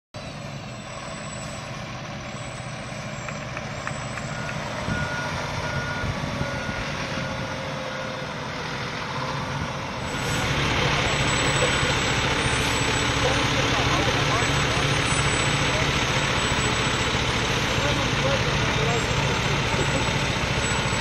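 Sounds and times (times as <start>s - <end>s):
diesel truck engine running: 0.2s - 21.0s.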